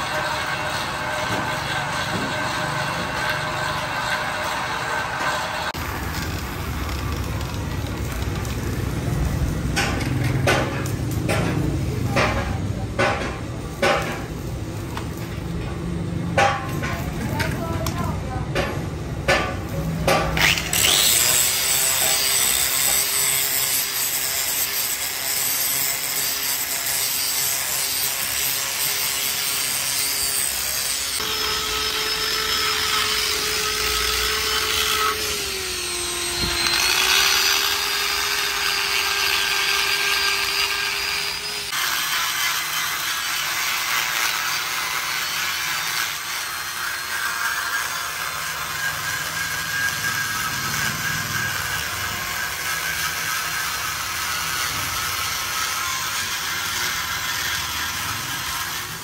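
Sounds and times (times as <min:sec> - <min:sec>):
die grinder working metal: 0:00.0 - 0:59.0
grinder grinding metal: 0:00.0 - 0:59.0.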